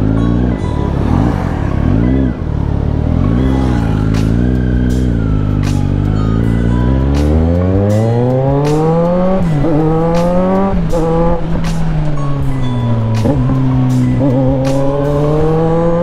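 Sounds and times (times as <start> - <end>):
motorcycle engine accelerating: 0.0 - 16.0
music with steady beat: 0.0 - 16.0.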